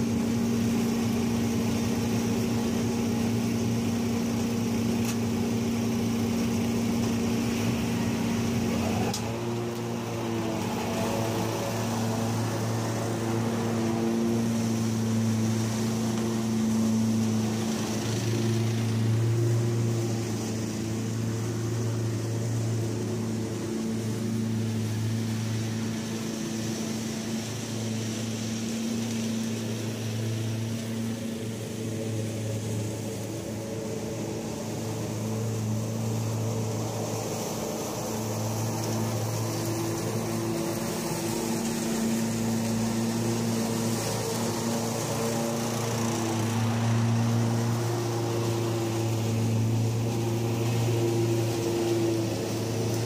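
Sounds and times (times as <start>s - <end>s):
mower engine drone: 0.0s - 53.0s
vacuum blower rushing: 0.0s - 53.0s.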